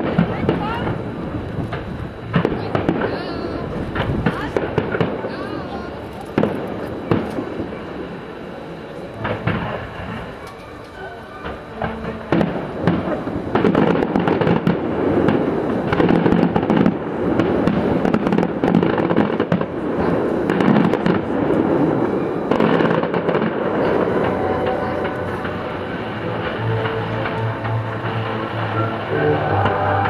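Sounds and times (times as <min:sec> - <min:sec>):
firework bangs and crackling: 0:00.0 - 0:30.0.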